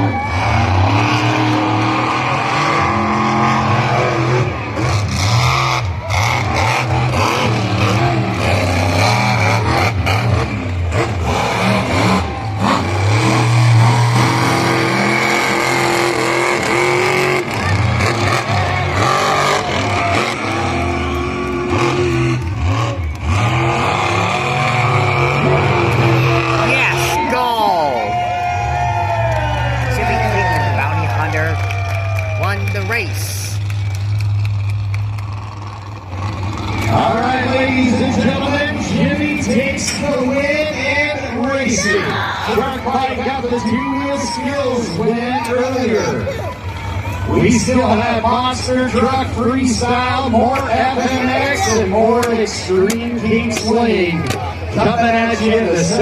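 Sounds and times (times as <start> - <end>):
monster truck engines revving: 0.0 - 56.0.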